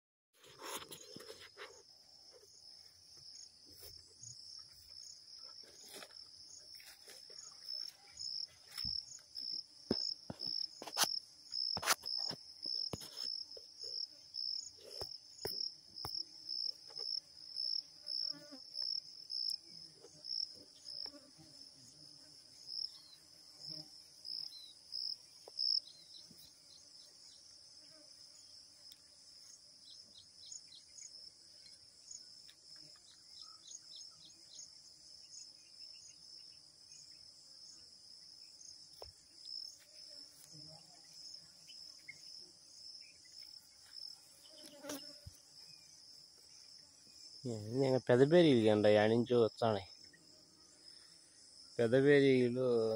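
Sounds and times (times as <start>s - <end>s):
insect chirping: 0.5s - 52.9s
high-pitched insect trill: 1.3s - 52.9s.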